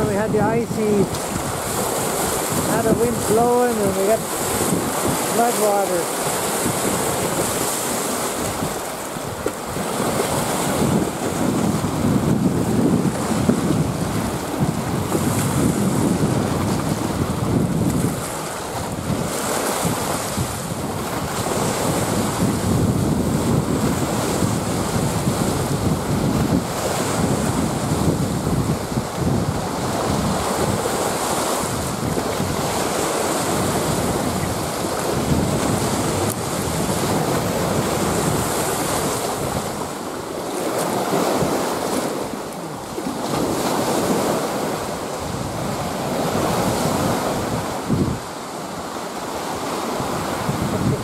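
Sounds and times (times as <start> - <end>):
waves washing against shore: 0.0 - 51.0
wind rumbling on microphone: 0.0 - 51.0.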